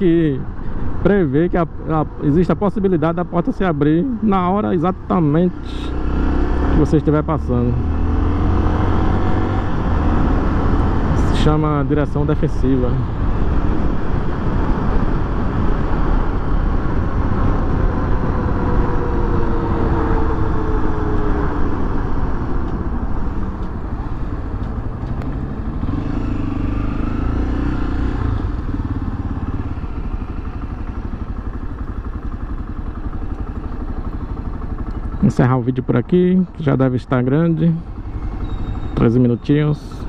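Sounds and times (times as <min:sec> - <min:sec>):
motorcycle engine running: 0:03.9 - 0:40.0.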